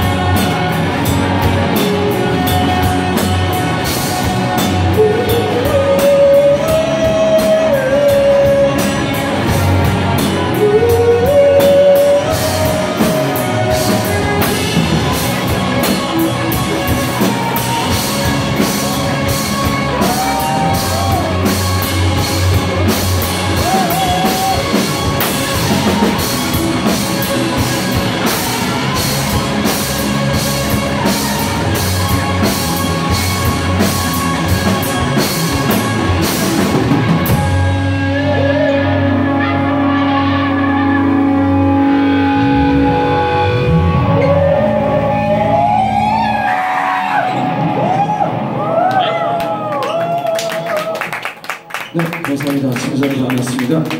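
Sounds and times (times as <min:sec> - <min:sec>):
bass guitar: 0:00.0 - 0:53.9
drum kit: 0:00.0 - 0:53.9
electric guitars: 0:00.0 - 0:53.9.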